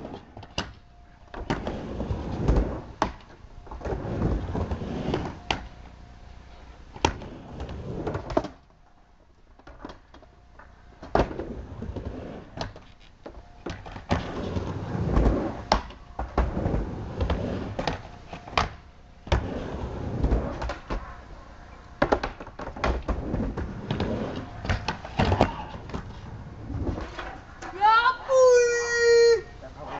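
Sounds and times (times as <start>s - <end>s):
skateboard clacks and thuds: 0.0s - 5.7s, 6.9s - 8.7s, 9.5s - 21.1s, 22.0s - 27.4s
skateboard wheels rolling: 0.0s - 29.5s.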